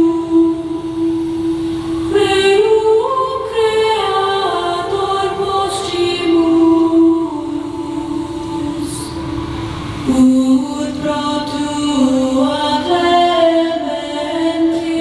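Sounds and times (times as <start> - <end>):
a cappella vocal ensemble singing: 0.0 - 15.0.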